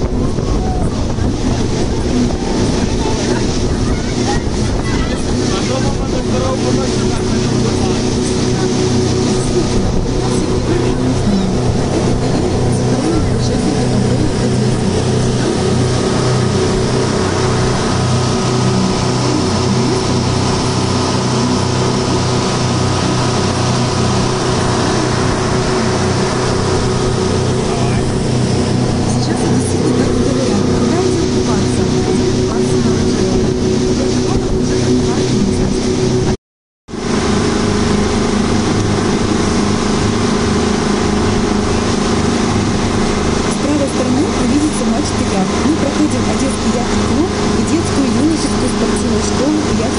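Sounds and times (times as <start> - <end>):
speedboat engine humming: 0.0 - 49.9
water rushing along hull: 0.0 - 49.9.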